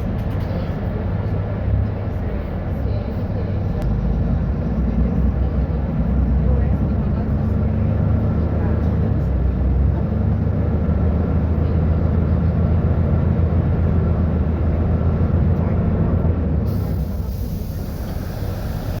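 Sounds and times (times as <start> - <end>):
bus diesel engine humming: 0.0 - 19.0.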